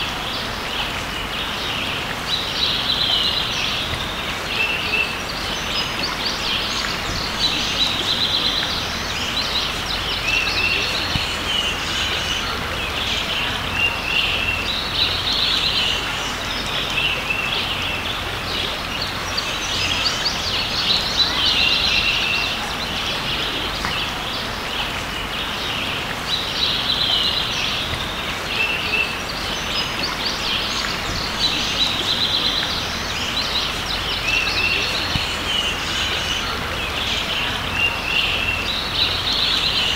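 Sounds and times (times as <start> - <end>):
flowing creek water: 0.0 - 39.9
songbirds singing and chirping: 0.0 - 39.9.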